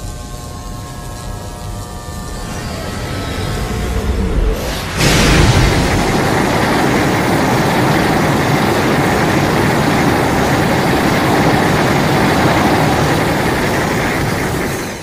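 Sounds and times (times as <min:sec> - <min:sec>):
loud rumbling noise: 0:02.3 - 0:15.0.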